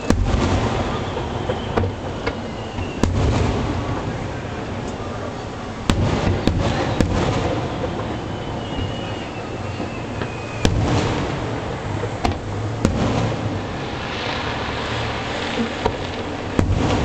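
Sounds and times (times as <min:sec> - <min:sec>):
firework shells bursting: 0:00.0 - 0:17.0.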